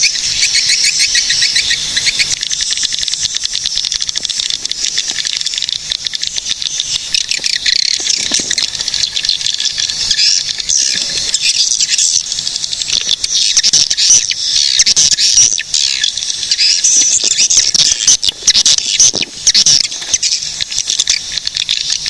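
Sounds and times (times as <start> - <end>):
swiftlets chirping: 0.0 - 22.0.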